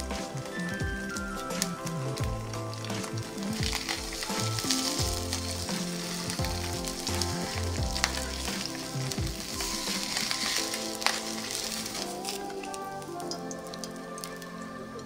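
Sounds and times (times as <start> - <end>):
soft background music: 0.0 - 15.0
meat sizzling in a frying pan: 0.4 - 12.8.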